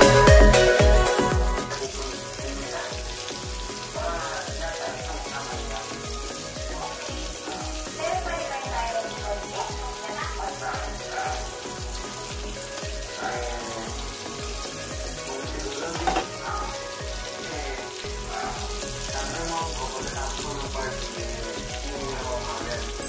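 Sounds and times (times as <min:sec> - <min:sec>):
background music with beat: 0:00.0 - 0:23.0
pork sizzling on griddle: 0:00.0 - 0:23.0.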